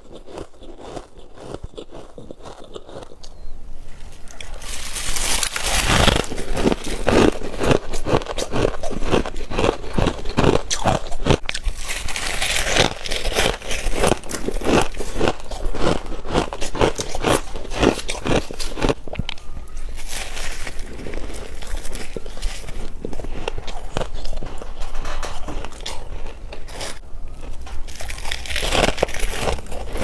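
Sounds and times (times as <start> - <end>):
crisp crunching of frost: 4.2 - 30.0.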